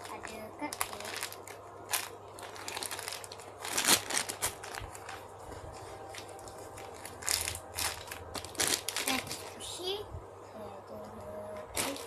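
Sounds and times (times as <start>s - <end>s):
toy crinkling and rustling: 0.0s - 9.7s, 11.6s - 12.0s
crackles: 0.0s - 9.8s, 11.6s - 12.0s.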